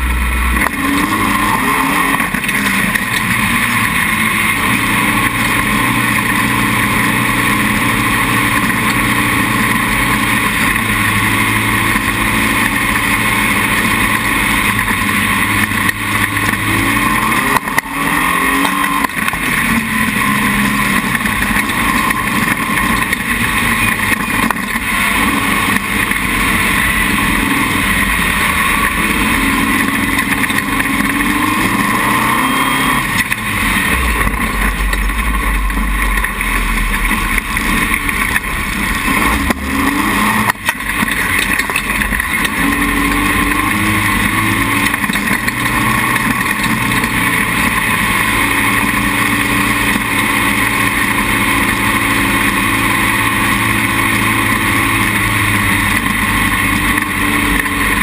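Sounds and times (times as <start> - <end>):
dune buggy engine running: 0.0 - 58.0.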